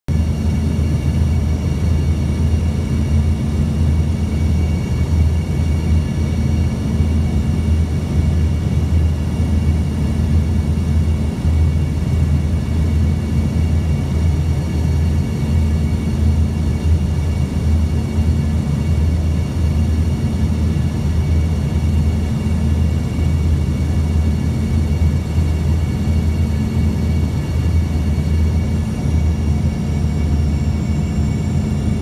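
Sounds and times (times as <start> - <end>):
jet engines and airflow drone: 0.1 - 32.0
faint high whine: 0.2 - 32.0.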